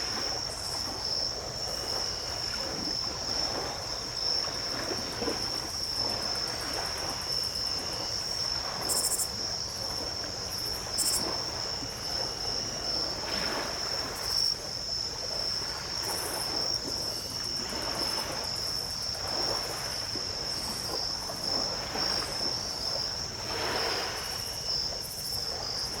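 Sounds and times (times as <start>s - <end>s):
small waves washing ashore: 0.0s - 26.0s
high-pitched insect trill: 0.1s - 26.0s.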